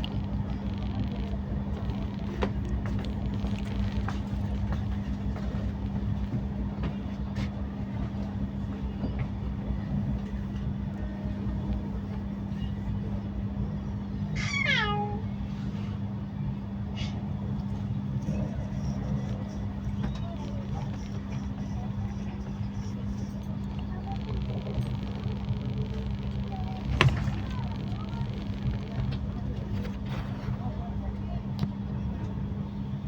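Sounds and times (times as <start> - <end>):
train rumble and hum: 0.0 - 33.0.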